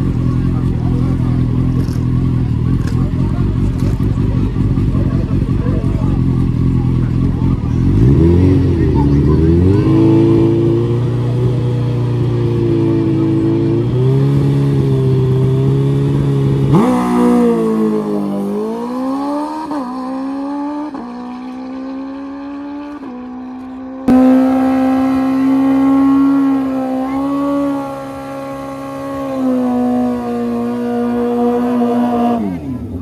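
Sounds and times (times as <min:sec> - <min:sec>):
motorcycle engine held at high revs: 0:00.0 - 0:33.0
motorcycle engine revving and accelerating: 0:00.0 - 0:33.0.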